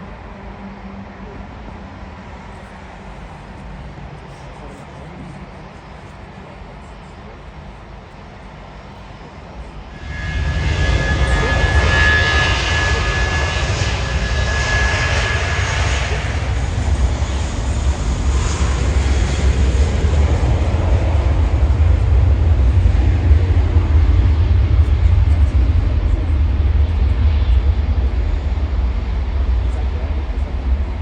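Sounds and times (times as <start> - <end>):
deep jet engine rumble: 0.0 - 31.0
jet engine high whine: 0.0 - 31.0.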